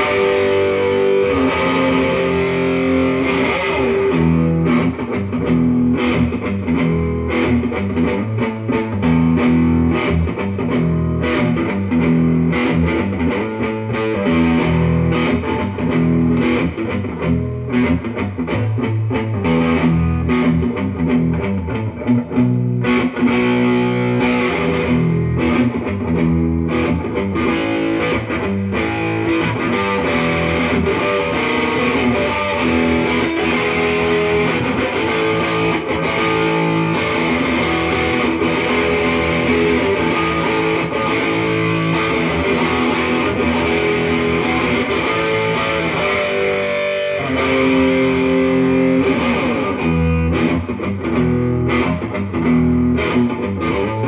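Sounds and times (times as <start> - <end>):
electric guitar through amplifier: 0.0 - 54.0.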